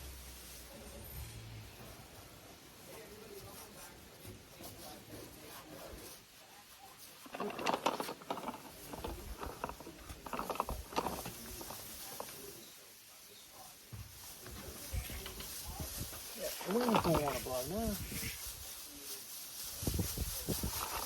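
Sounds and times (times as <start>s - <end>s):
plastic sheet rustling and crinkling: 2.7s - 21.0s.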